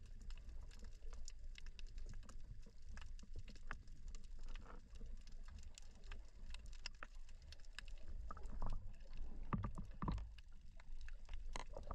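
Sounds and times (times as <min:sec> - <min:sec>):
low underwater rumble: 0:00.0 - 0:11.9
underwater crackling clicks: 0:00.0 - 0:11.9.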